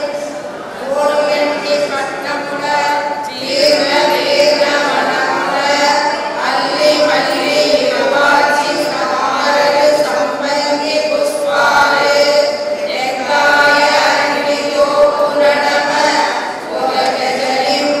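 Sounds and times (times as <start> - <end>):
women chanting in unison: 0.0 - 18.0.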